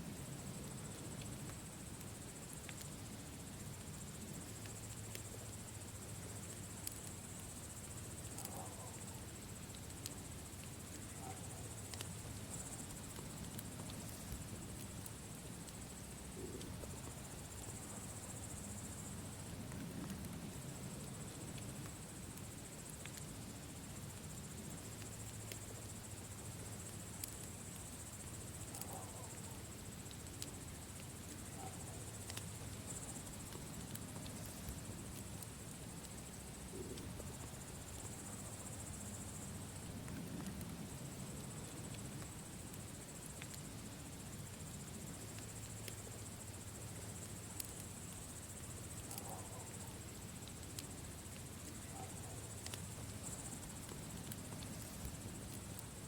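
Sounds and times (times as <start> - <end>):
campfire crackling: 0.0 - 56.0
crickets chirping: 0.0 - 56.0.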